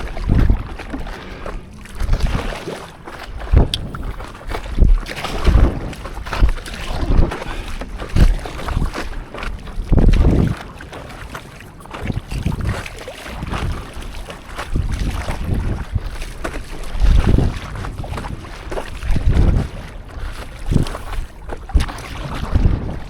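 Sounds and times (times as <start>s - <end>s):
sea water splashing around board: 0.0s - 23.0s
wind buffeting microphone: 0.0s - 23.0s.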